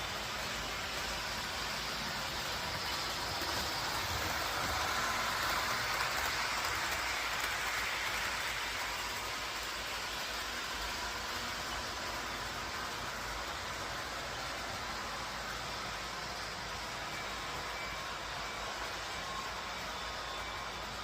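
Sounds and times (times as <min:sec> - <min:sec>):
train rolling on track: 0:00.0 - 0:21.0.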